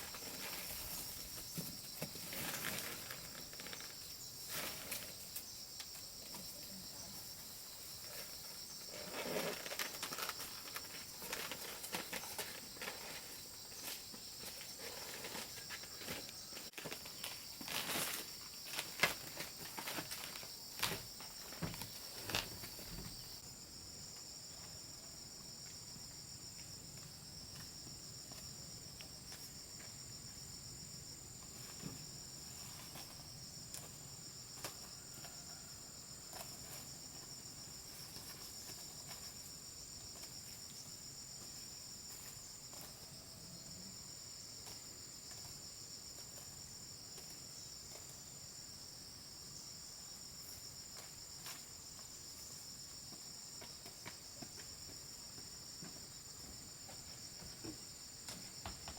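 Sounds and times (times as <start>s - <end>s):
insect chorus trilling: 0.0s - 58.9s.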